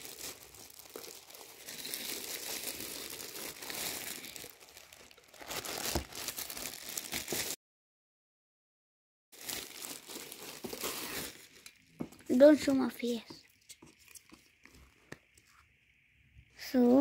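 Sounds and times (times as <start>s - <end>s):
packaging crinkling and rustling: 0.0s - 7.6s, 9.4s - 15.6s.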